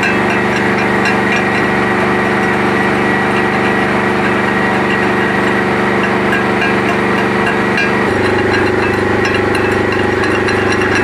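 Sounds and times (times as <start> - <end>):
engine humming steadily: 0.0 - 11.0
faint regular ticking: 0.0 - 11.0.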